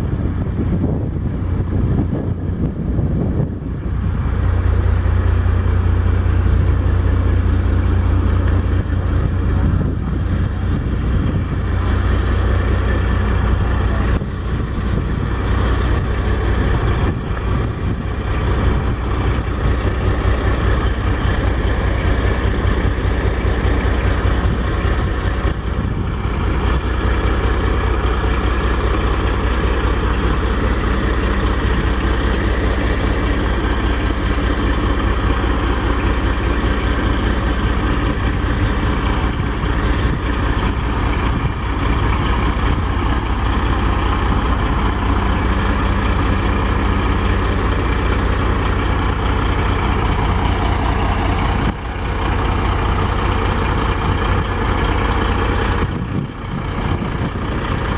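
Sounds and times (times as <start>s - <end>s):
diesel truck engine idling: 0.0s - 57.9s.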